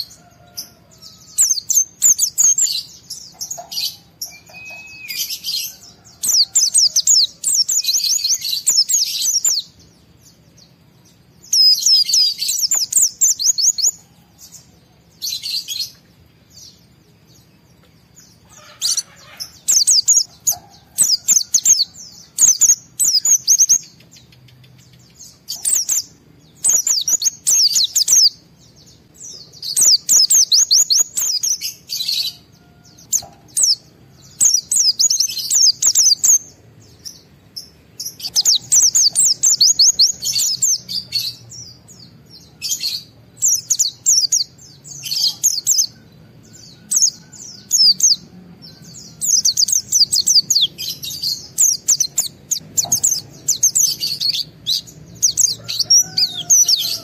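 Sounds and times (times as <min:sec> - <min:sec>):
bird chirping and trilling: 0:00.0 - 0:57.0.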